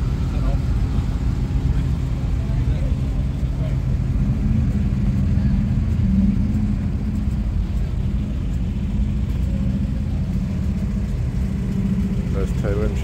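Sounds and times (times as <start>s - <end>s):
car engines driving slowly past: 0.0s - 13.0s.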